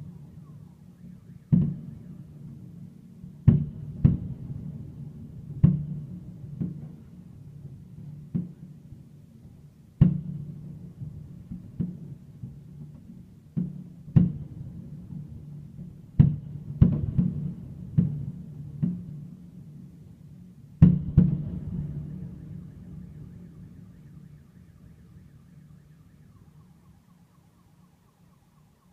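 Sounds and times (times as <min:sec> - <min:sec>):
fireworks booming with echo: 0:01.2 - 0:08.9, 0:10.0 - 0:20.1, 0:20.8 - 0:27.2.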